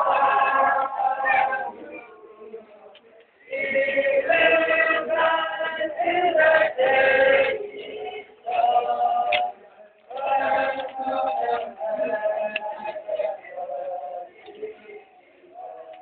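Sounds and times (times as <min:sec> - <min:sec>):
congregation and choir singing hymn: 0:00.0 - 0:16.0.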